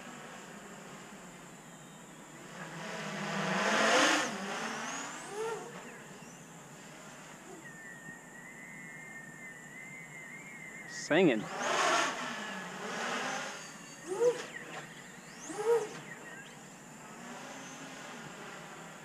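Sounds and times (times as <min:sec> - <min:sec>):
racing drone propeller whine: 0:00.0 - 0:19.0.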